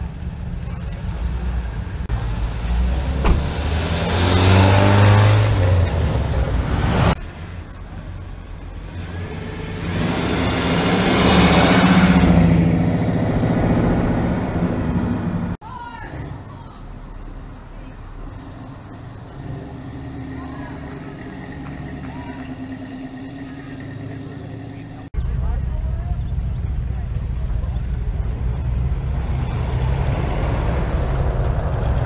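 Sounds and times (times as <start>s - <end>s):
cars driving past: 0.9s - 32.0s.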